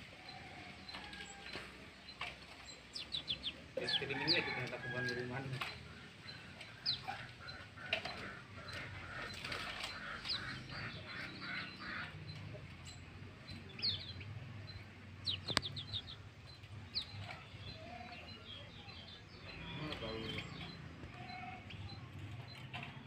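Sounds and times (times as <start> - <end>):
raspy chatter: 0.0 - 23.0
songbird chirping: 0.0 - 23.0.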